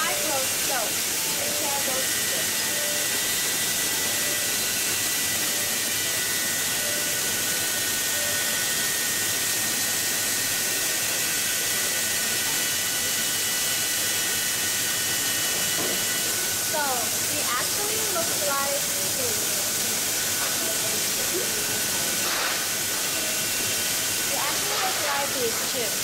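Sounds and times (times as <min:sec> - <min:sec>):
steady machinery hiss: 0:00.0 - 0:26.0.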